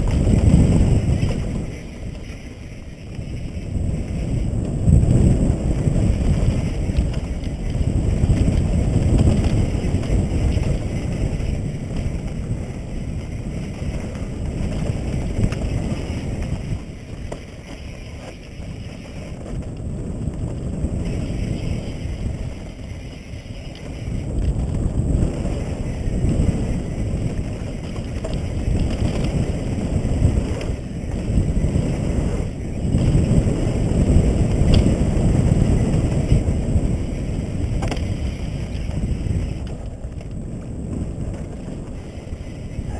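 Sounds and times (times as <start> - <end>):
bike tyres rumbling on dirt: 0.0 - 42.9
wind on microphone: 0.0 - 42.9.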